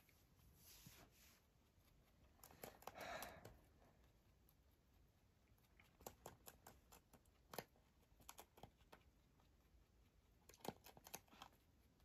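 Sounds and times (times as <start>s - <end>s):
rabbit crunching cabbage leaf: 1.4s - 12.0s.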